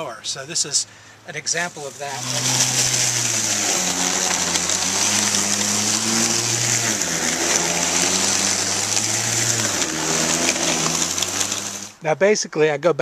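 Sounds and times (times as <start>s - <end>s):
lawn mower engine: 0.0s - 12.0s
mower shredding dry leaves: 1.3s - 12.0s.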